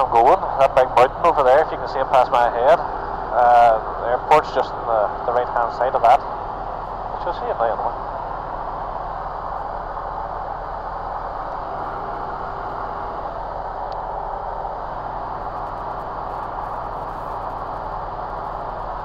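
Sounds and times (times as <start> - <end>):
light aircraft engine and propeller drone: 0.0 - 19.0.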